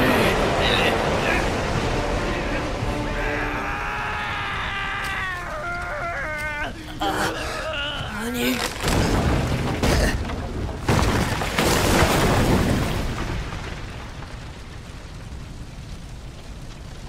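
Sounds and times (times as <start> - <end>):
heavy rumbling crashes: 0.0 - 5.8, 8.6 - 17.0
building fire roaring: 0.0 - 17.0.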